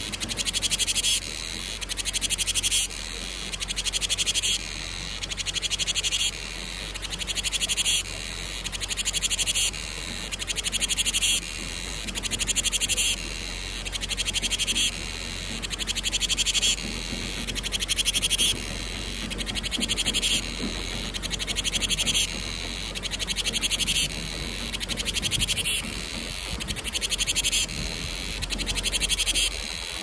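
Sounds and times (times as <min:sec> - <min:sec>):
cicadas singing: 0:00.0 - 0:30.0
steady high buzz: 0:00.0 - 0:30.0.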